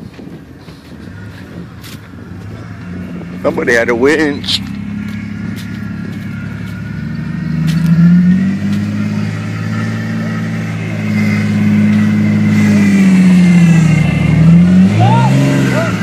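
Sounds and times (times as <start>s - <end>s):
engine revving under load: 0.4s - 16.0s.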